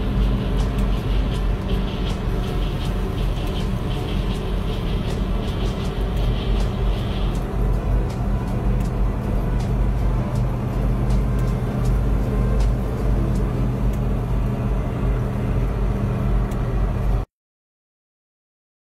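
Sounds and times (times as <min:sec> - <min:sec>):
road noise: 0:00.0 - 0:17.3
vehicle engine hum: 0:00.0 - 0:17.3.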